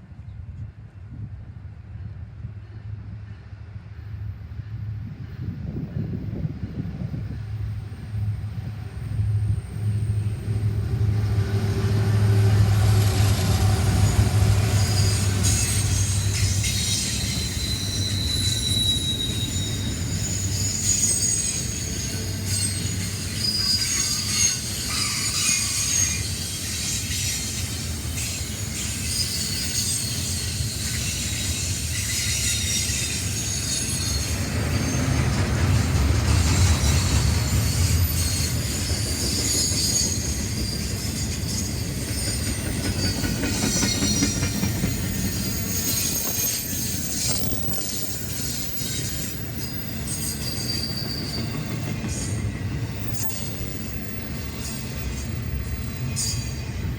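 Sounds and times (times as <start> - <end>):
low rumble of railroad cars: 0.0 - 56.9
steel wheels squealing on rails: 2.7 - 56.9.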